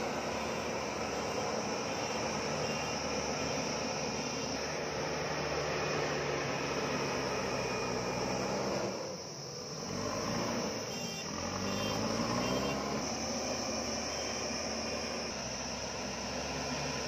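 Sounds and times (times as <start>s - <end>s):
diesel engine revving under load: 0.0s - 17.0s.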